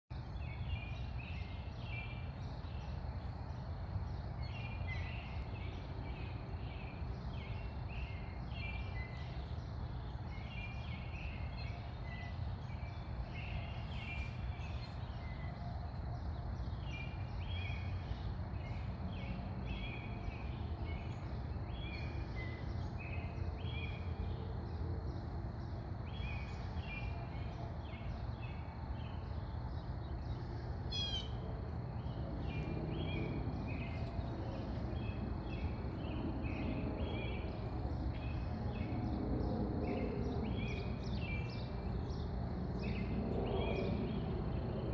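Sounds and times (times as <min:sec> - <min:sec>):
small birds chirping: 0:00.1 - 0:44.9.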